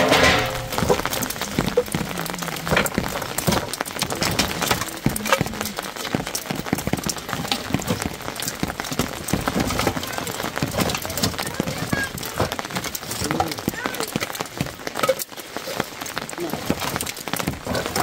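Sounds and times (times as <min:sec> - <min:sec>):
firewood knocking: 0:00.0 - 0:18.0
rain pattering: 0:00.0 - 0:18.0.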